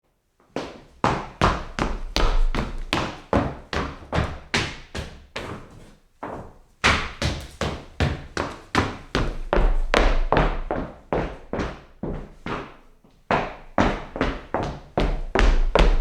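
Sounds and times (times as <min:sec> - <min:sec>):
hard shoes on wooden floor: 0:00.5 - 0:16.0.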